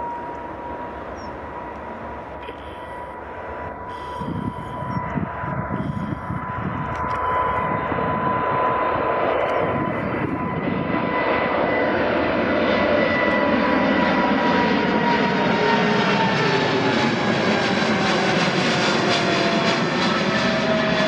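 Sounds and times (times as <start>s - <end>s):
high whine: 0.0s - 21.0s
jet engine roar at takeoff: 0.0s - 21.0s.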